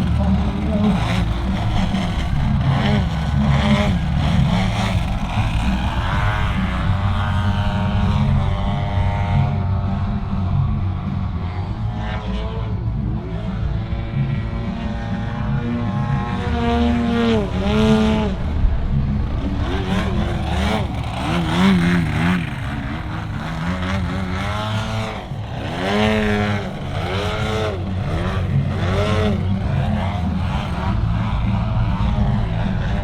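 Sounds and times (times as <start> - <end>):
model airplane engine and propeller: 0.0 - 33.0.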